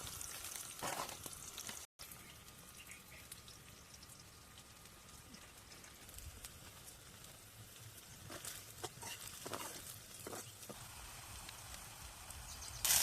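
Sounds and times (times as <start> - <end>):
curry sizzling and popping: 0.0 - 13.0.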